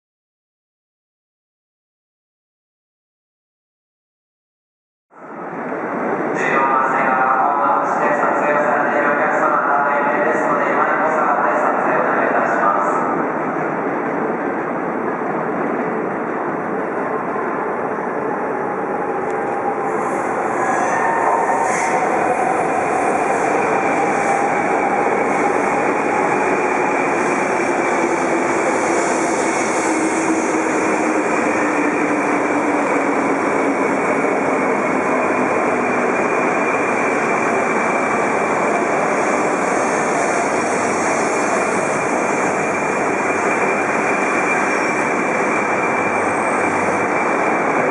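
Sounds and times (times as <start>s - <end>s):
bullet train rushing: 5.4s - 47.9s.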